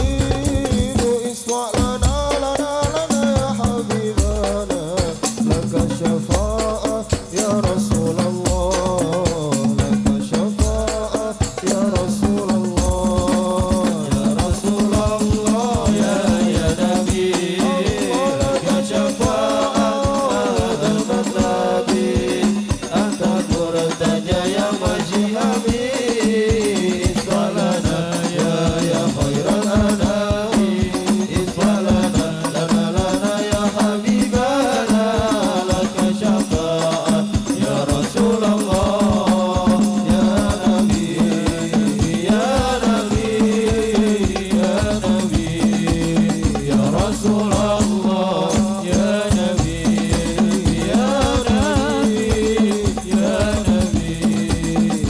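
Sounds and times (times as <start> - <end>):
frame drums beating: 0.0 - 55.0
group of voices singing: 0.0 - 55.0
men chanting in unison: 0.0 - 55.0.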